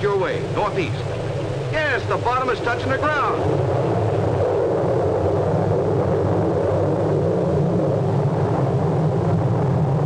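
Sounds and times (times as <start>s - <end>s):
low rumble: 0.0s - 10.0s
rushing wind: 0.0s - 10.0s.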